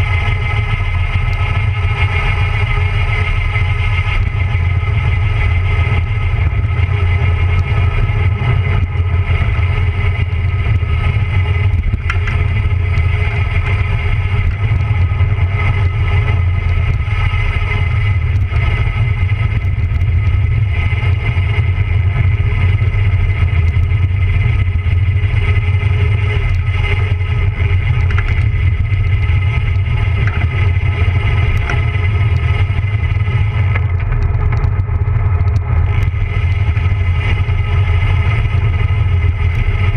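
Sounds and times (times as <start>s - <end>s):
bicycle tyre and road noise: 0.0s - 39.9s
wind buffeting microphone: 0.0s - 39.9s.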